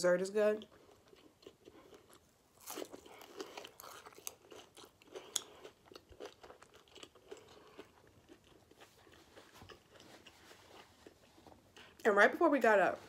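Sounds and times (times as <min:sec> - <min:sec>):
person chewing crunchy food: 0:00.6 - 0:12.0.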